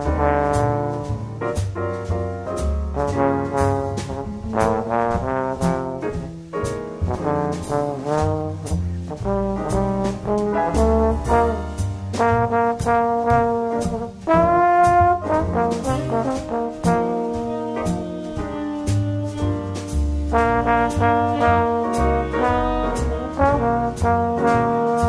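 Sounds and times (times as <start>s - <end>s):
bass line: 0.0s - 25.0s
brass melody: 0.0s - 25.0s
steady drum beat: 0.0s - 25.0s.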